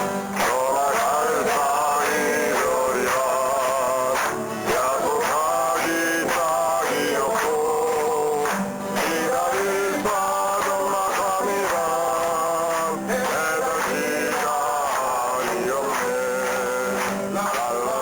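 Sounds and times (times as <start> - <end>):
acoustic guitar: 0.0 - 18.0
man singing folk song: 0.0 - 18.0.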